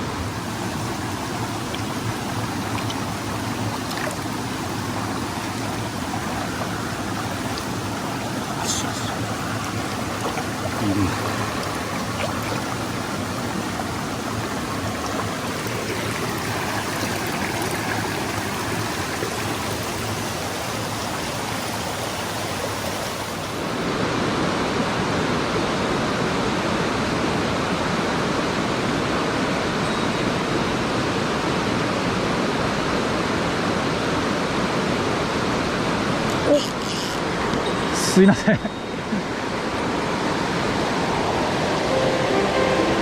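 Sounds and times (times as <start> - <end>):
stream running over rocks: 0.0 - 29.7, 30.3 - 43.0.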